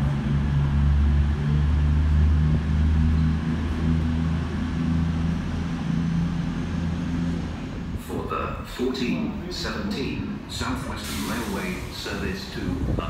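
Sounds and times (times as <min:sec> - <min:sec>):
train diesel engines droning: 0:00.0 - 0:13.0.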